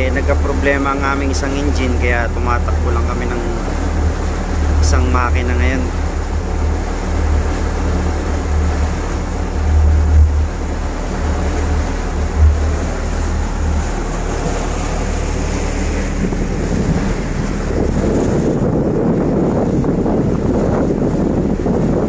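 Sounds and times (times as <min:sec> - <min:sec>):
boat engine droning: 0:00.0 - 0:22.0
churning wake rushing: 0:00.0 - 0:22.0
wind buffeting microphone: 0:00.0 - 0:22.0.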